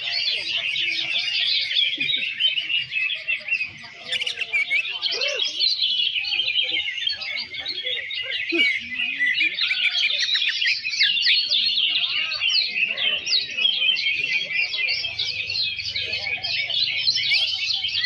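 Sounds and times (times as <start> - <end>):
chorus of birds singing: 0.0 - 18.0.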